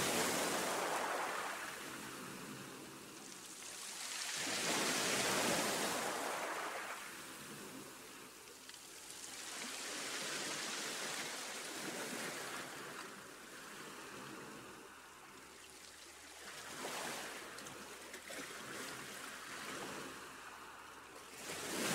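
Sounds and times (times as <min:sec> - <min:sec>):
rushing water like surf: 0:00.0 - 0:21.9.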